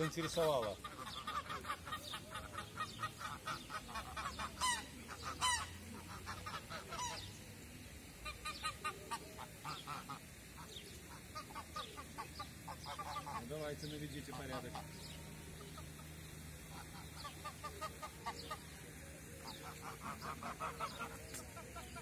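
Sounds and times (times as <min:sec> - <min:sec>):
geese honking and cackling: 0:00.0 - 0:07.4, 0:08.1 - 0:22.0.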